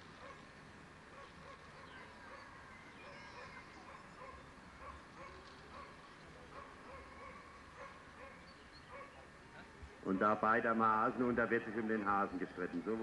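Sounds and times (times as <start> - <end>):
open field noise: 0.0 - 13.0
faint dogs barking: 0.2 - 10.7.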